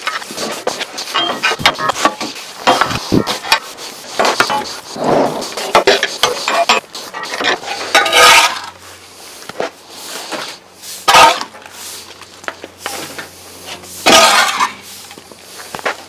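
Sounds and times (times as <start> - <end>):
metallic clattering and scraping: 0.0 - 8.9, 9.6 - 16.0.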